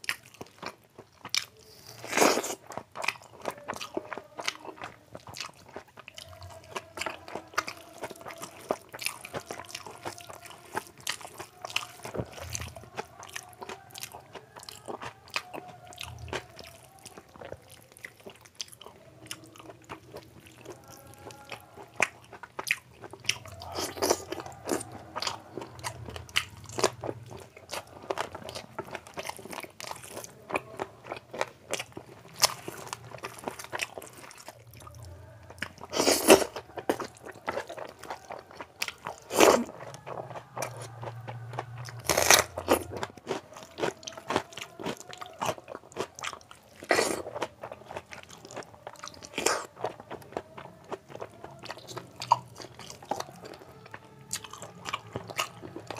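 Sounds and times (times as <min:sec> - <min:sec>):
chewing and crunching: 0:00.0 - 0:55.9.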